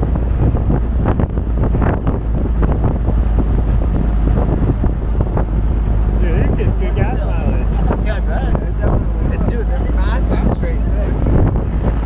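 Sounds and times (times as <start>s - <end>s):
car engine rumble: 0.0s - 12.0s
wind buffeting microphone: 0.0s - 12.0s.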